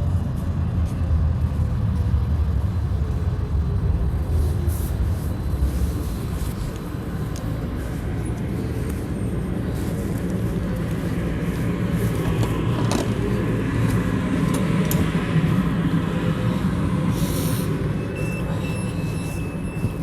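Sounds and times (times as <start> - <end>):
vehicle low rumble: 0.0 - 20.0.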